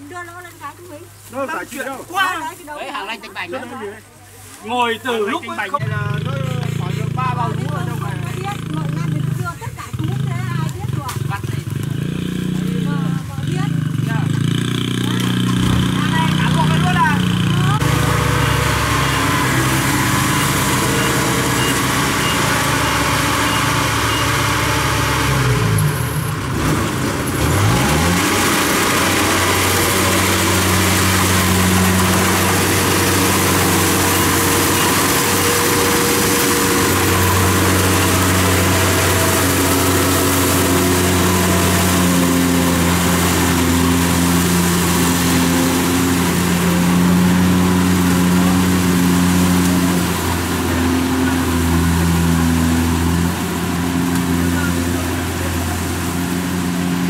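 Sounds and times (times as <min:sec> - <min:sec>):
harvester diesel engine running: 0:00.0 - 0:57.0.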